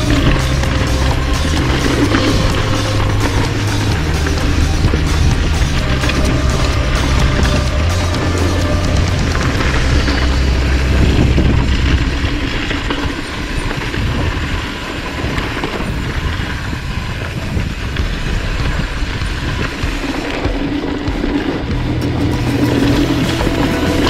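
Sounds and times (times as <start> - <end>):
mountain bike rattling and clattering: 0.0 - 24.0.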